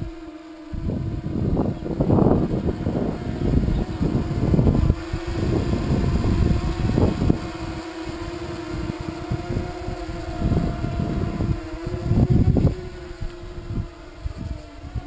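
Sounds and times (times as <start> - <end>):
quadcopter motors humming: 0.0 - 15.0
wind gusts on microphone: 0.0 - 15.0.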